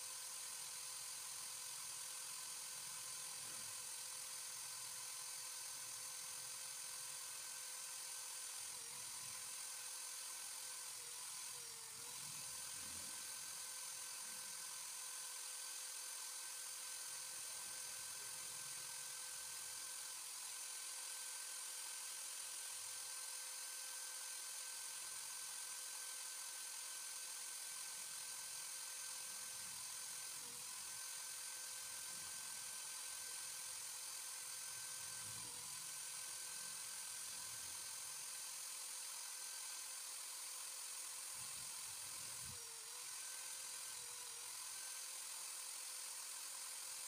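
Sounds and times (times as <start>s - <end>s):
electric drill whining: 0.0s - 47.0s.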